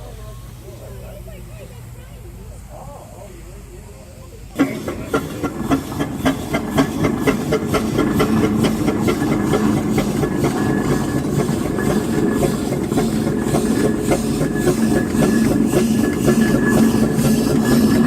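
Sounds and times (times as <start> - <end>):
steam train running: 0.0 - 18.0.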